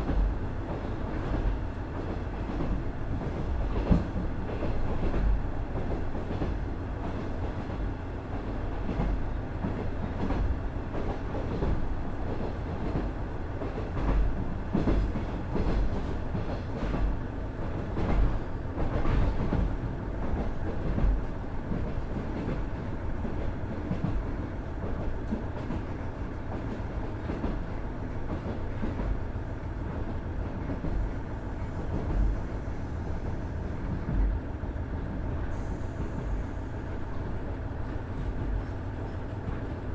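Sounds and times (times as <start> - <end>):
railcar bumps: 0.0 - 29.2, 30.0 - 34.5
railcar wheels rumbling on rail: 0.0 - 39.9.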